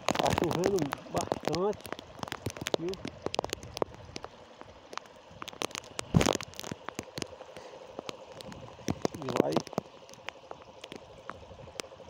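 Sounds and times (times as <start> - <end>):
heavy rain falling: 0.0 - 12.0
raindrops ticking close: 0.0 - 12.0.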